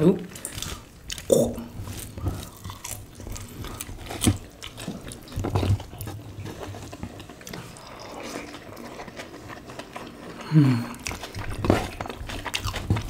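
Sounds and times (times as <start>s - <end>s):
people chewing and lip-smacking: 0.3s - 13.0s.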